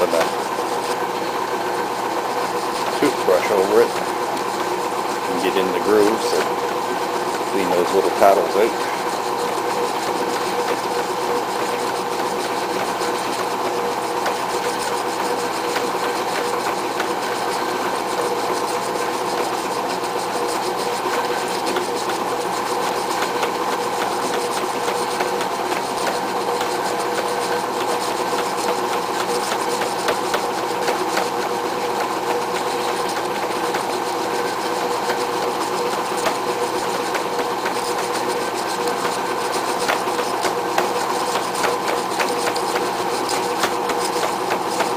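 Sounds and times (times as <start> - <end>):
machine humming: 0.0 - 44.9.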